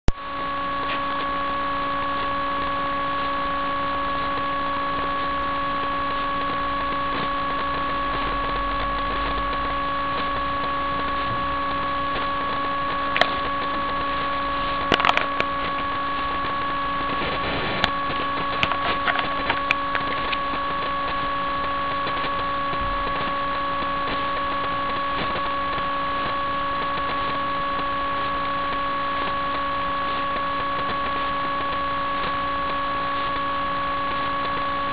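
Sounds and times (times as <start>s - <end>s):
steady hum of fixed tones: 0.1s - 34.9s.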